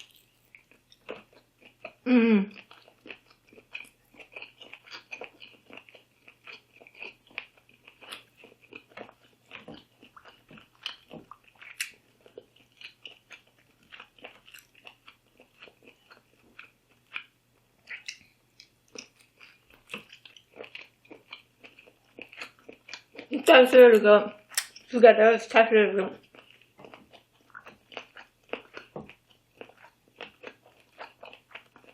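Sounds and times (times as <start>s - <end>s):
chewing and biting food: 0.0s - 23.5s, 26.2s - 31.9s.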